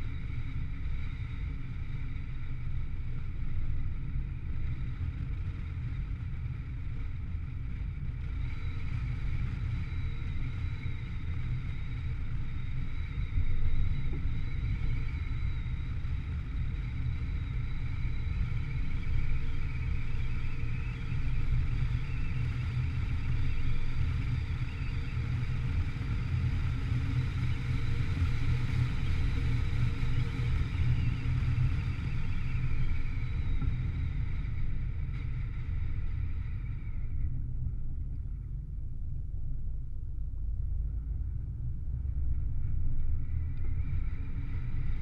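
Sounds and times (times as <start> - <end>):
vehicle rumbling on paved road: 0.0 - 39.2, 40.4 - 45.0
faint whining tones: 0.0 - 45.0.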